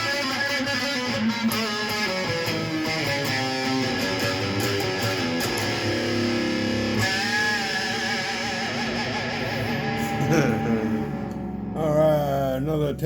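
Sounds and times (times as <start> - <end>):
stringed instrument playing: 1.5 - 13.0.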